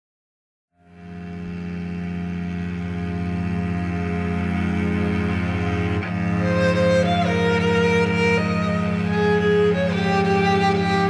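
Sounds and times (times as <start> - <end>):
slow sustained music chords: 0.8 - 11.0.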